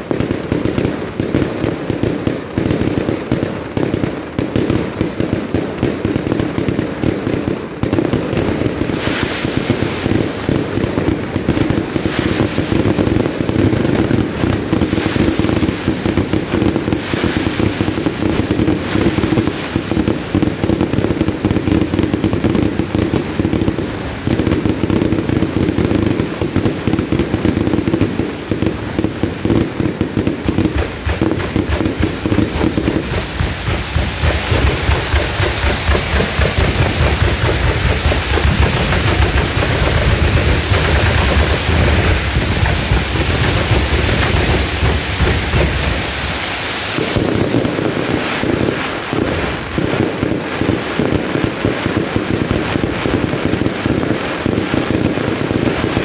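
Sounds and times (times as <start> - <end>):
fireworks bangs and crackling: 0.0 - 56.0
fireworks hissing: 0.0 - 56.0.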